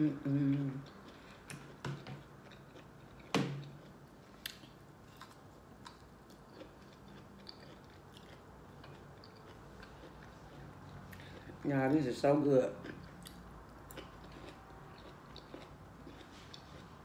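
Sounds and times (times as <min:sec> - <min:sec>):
soft chewing clicks: 0:00.5 - 0:17.0.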